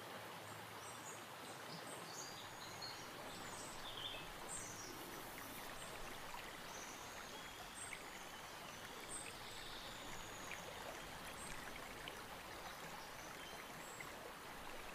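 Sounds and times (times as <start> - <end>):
river water rippling and lapping: 0.0 - 14.9.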